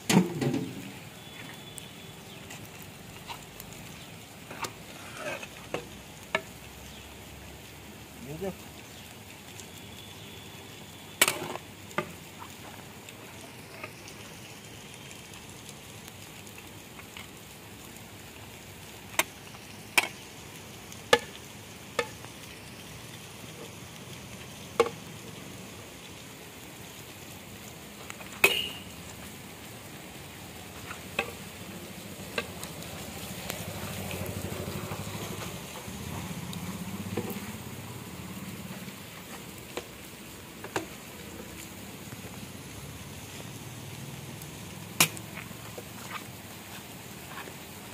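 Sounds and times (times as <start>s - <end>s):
steaming pot hissing: 0.0s - 47.9s.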